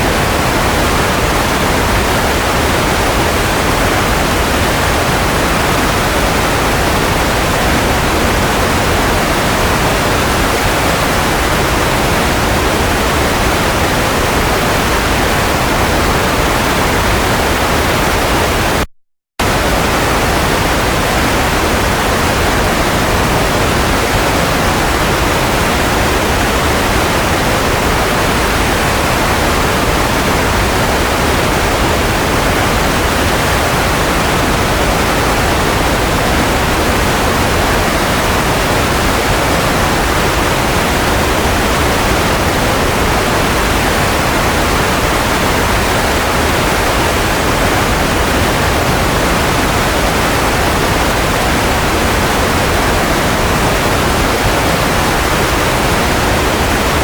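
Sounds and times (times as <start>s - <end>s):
steady white noise hiss: 0.0s - 18.7s, 19.4s - 57.0s.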